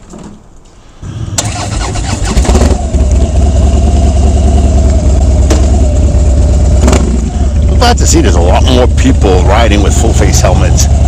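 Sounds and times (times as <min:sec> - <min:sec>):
motorcycle engine starting and idling: 0:01.0 - 0:11.0.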